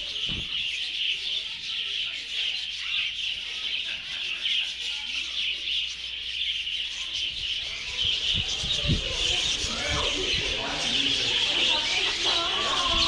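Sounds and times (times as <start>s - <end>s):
flock of small birds chirping: 0.0s - 13.0s.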